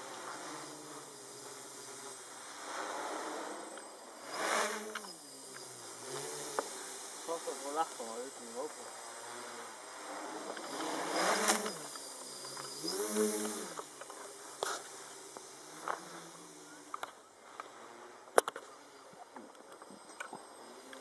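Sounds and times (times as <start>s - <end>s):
electric motors spinning up: 0.0s - 17.3s.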